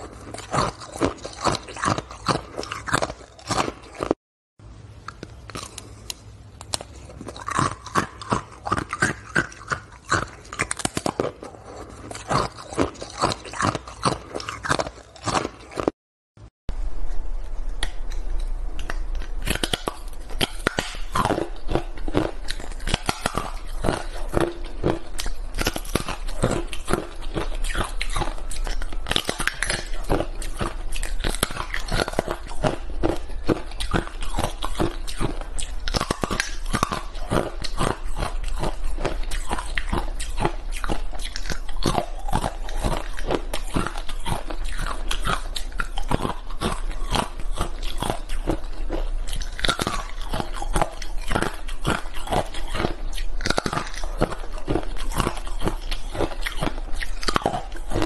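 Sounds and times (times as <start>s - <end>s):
ice crunching being chewed: 0.0s - 4.2s, 5.1s - 16.0s, 17.0s - 58.0s.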